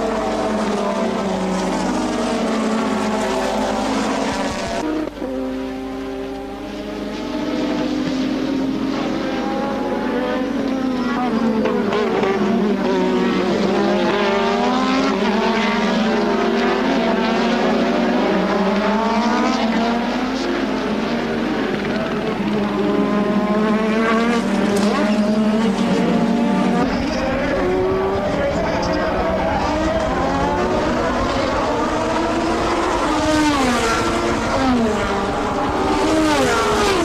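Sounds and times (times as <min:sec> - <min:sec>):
racing car engines passing: 0:00.0 - 0:37.0.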